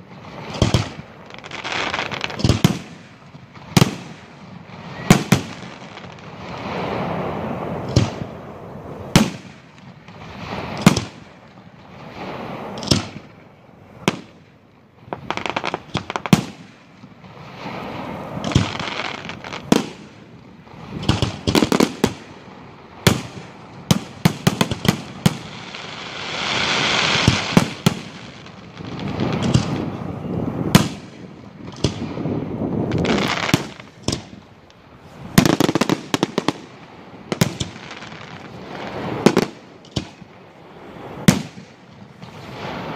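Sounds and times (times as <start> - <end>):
fireworks crackling: 0.0 - 42.9
firework shells bursting with bangs: 0.1 - 6.9, 7.8 - 8.4, 9.1 - 13.4, 14.1 - 17.8, 18.4 - 40.4.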